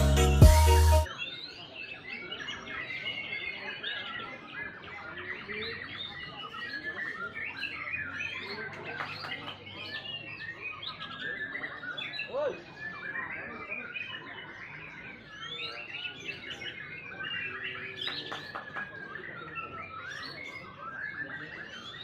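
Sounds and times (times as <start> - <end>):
bird singing whistles and trills: 1.1 - 22.0.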